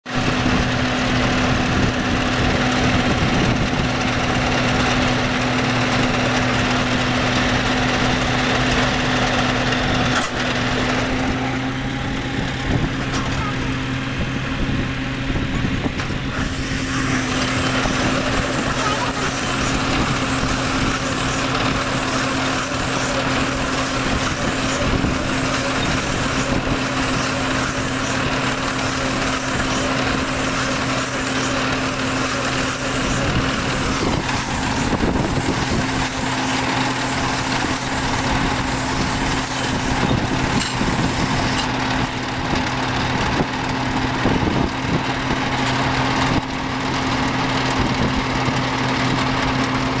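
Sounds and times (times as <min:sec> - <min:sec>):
baler machine hum: 0:00.1 - 0:50.0.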